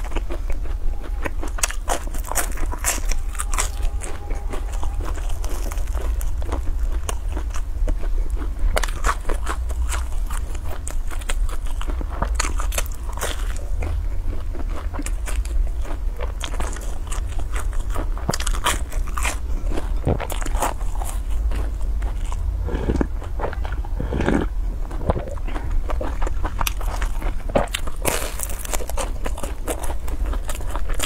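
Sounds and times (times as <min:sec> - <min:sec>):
chewing crisp fried dough: 0:00.0 - 0:31.0
constant low hum: 0:00.0 - 0:31.0.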